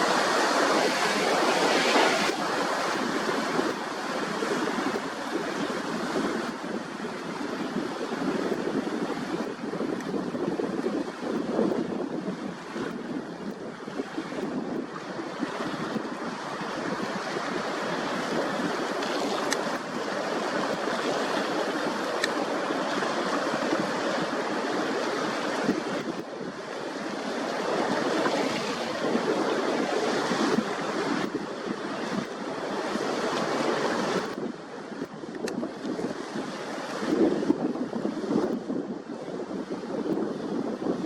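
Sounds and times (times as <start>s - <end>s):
rushing water: 0.0s - 41.0s
wind buffeting microphone: 0.0s - 41.0s.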